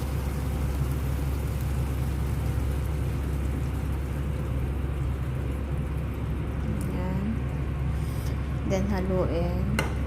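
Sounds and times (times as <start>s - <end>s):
stove hum and hiss: 0.0s - 10.0s.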